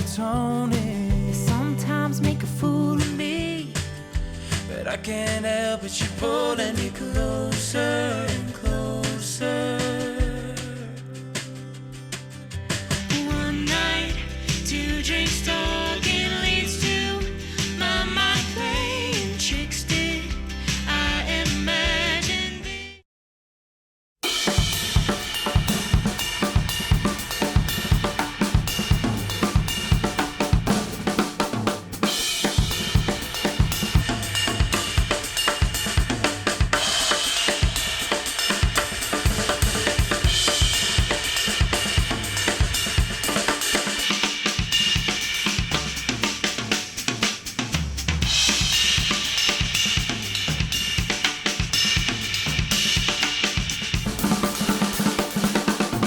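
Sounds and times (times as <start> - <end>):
instrumental music with drum kit: 0.0 - 22.8, 24.2 - 56.0.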